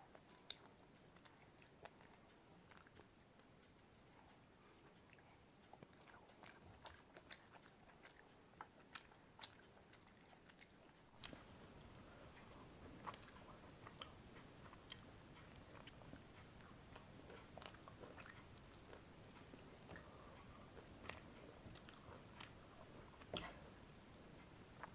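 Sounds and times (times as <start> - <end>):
faint background hiss: 0.0 - 24.9
person chewing: 0.4 - 4.0, 4.7 - 24.9.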